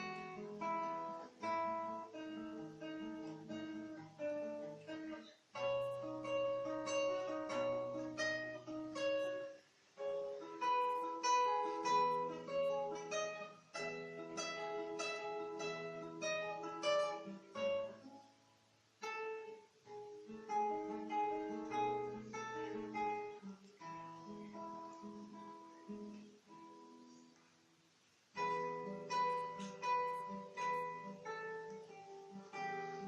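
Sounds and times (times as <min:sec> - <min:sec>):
fingerstyle classical guitar: 0:00.0 - 0:33.0.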